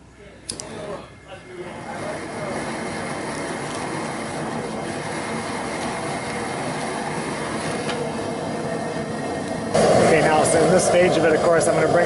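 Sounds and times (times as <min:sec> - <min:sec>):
roar of gas burner flame: 0:00.5 - 0:12.0.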